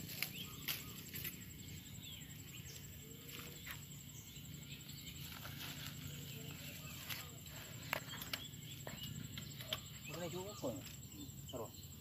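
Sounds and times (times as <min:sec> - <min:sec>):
swamp ambience: 0:00.0 - 0:12.0.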